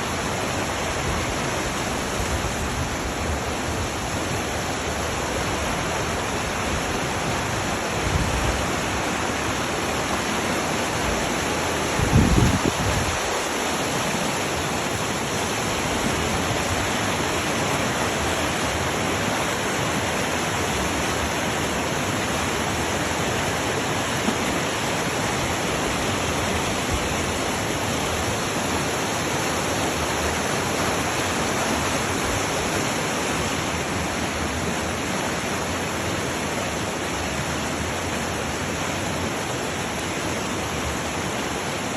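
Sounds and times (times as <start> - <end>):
fast-flowing water rushing: 0.0 - 41.9.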